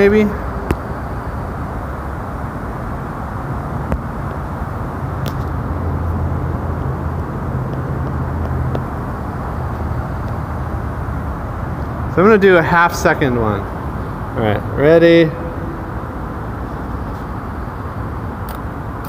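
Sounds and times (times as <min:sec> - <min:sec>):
distant traffic rumble: 0:00.0 - 0:19.0
engine drone: 0:00.0 - 0:19.0.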